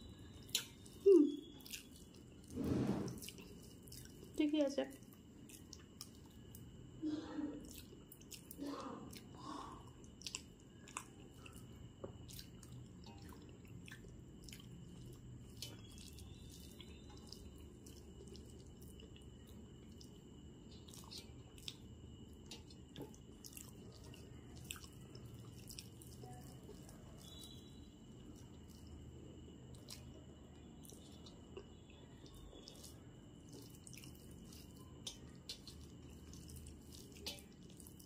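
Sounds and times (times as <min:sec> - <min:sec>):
person chewing: 0:00.2 - 0:02.5, 0:03.1 - 0:04.4, 0:05.0 - 0:06.7, 0:07.6 - 0:29.0, 0:29.7 - 0:38.0.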